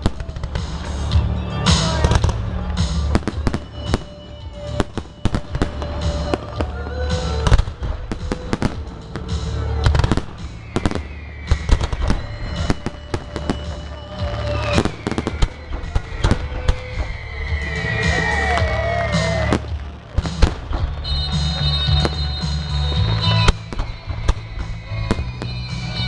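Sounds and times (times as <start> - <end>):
firework bangs and crackles: 0.0 - 26.0.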